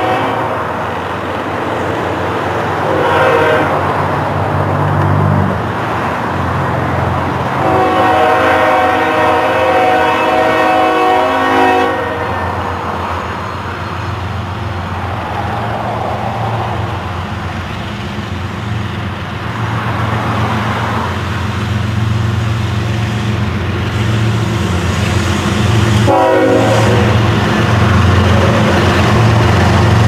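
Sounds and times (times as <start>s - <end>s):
diesel locomotive engines droning: 0.0s - 30.0s.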